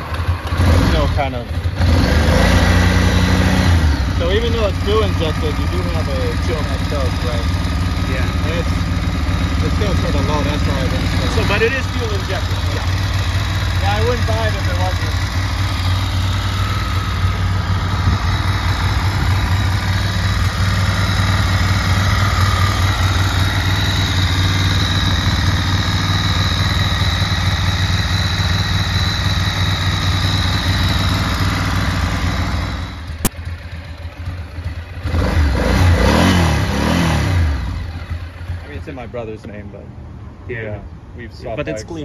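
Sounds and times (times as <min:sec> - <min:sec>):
motorcycle engine idling: 0:00.0 - 0:40.4.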